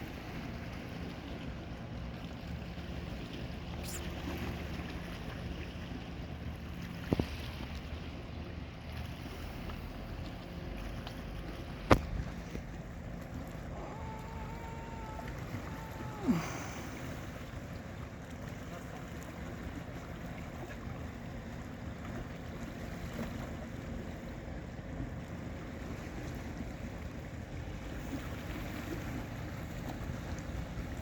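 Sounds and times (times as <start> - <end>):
boat engine humming: 0.0 - 31.0
water noise: 0.0 - 31.0
wind: 0.0 - 31.0.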